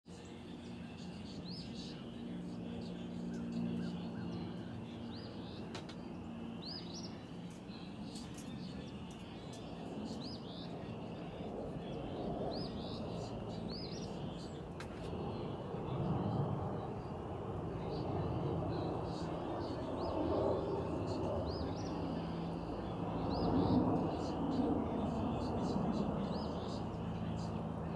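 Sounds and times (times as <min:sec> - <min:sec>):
jet airliner engine rumble: 0:00.1 - 0:27.9.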